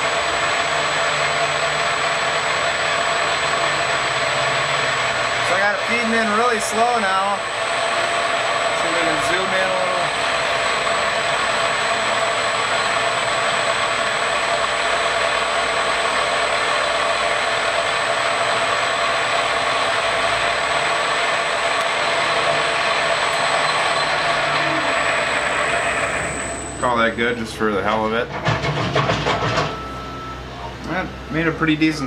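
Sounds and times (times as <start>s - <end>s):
metal lathe cutting metal: 0.0s - 29.7s
high whine: 0.0s - 32.0s.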